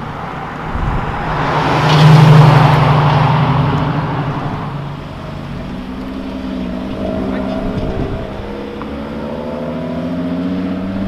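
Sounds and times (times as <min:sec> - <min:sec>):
car driving past: 0:00.6 - 0:11.0.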